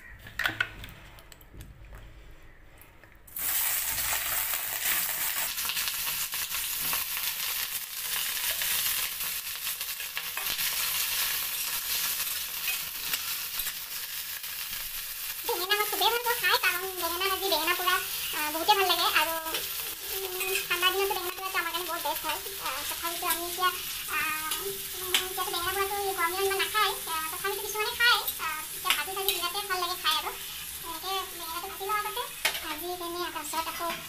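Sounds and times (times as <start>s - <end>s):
vegetables sizzling in oil: 3.3s - 34.0s.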